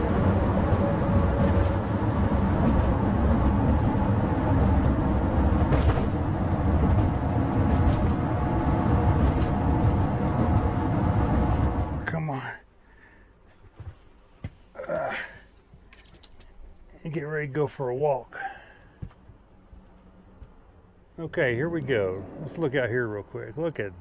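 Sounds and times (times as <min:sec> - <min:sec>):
vehicle engine rumble: 0:00.0 - 0:12.5, 0:15.6 - 0:24.0
road noise: 0:00.0 - 0:13.2, 0:15.7 - 0:24.0.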